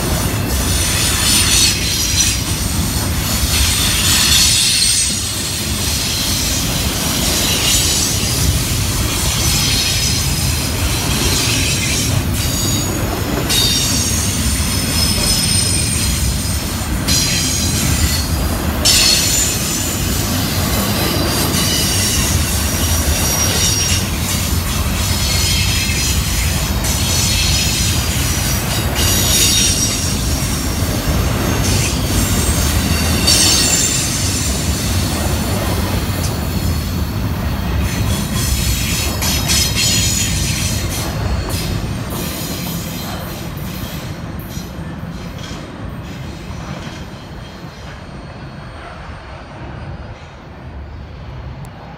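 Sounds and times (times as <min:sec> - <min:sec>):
train wheels rumbling: 0:00.0 - 0:51.9.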